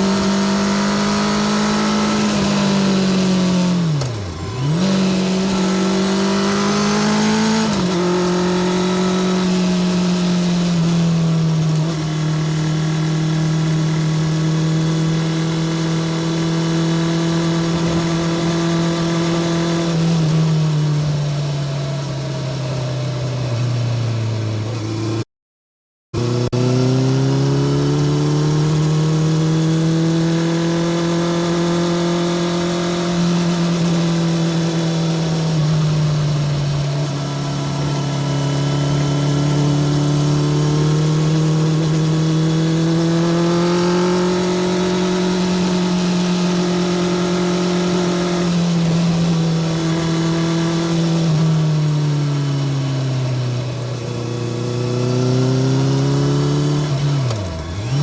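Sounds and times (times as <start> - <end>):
motorcycle engine running: 0.0 - 25.2, 26.2 - 58.0.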